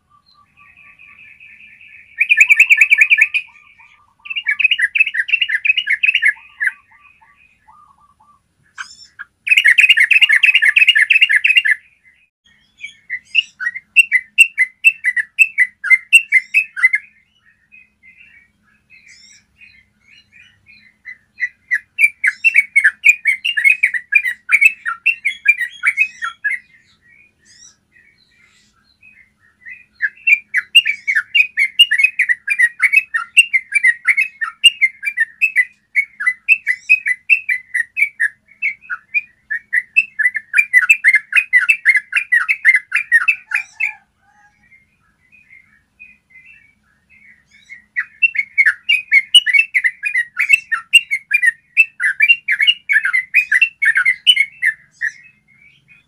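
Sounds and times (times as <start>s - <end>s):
bulbul singing rolling song: 0.0s - 56.0s.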